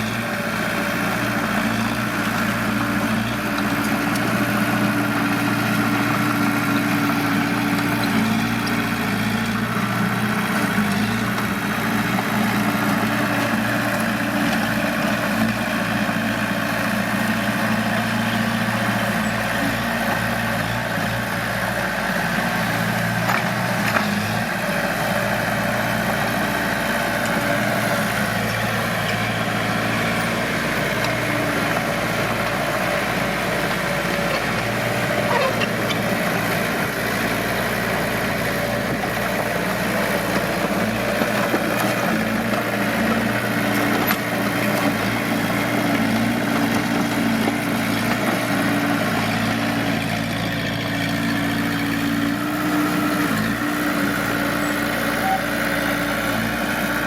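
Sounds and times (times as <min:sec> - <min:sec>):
diesel engine running at low revs: 0:00.0 - 0:57.0.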